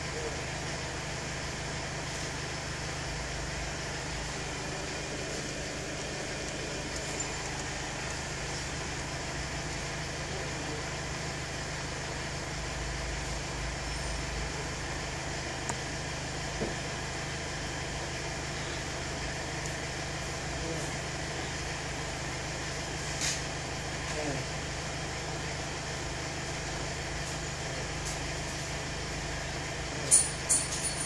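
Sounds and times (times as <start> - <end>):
car idling: 0.0 - 31.0.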